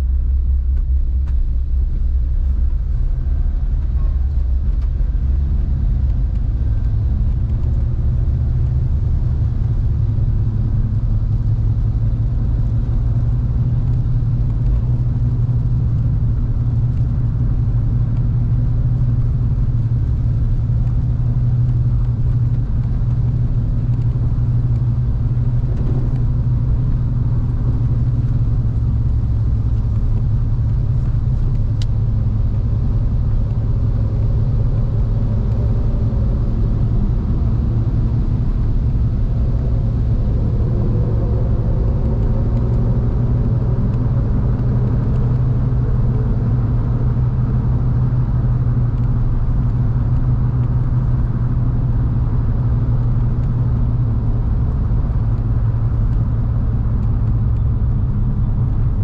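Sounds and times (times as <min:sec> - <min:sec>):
car driving on wet road: 0:00.0 - 0:59.0
engine and tyre noise: 0:00.0 - 0:59.0.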